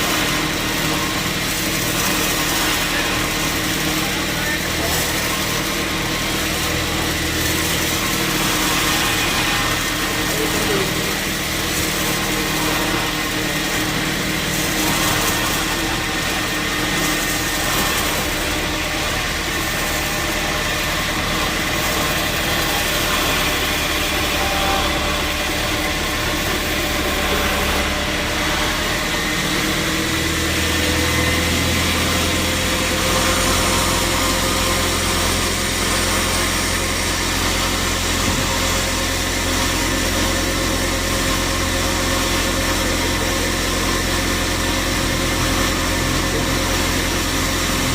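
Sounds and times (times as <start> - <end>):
sawmill machinery humming: 0.0 - 47.9.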